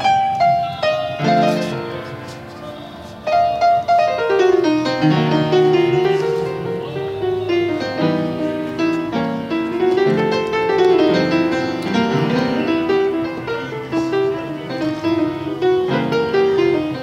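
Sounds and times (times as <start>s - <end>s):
solo piano: 0.0s - 17.0s.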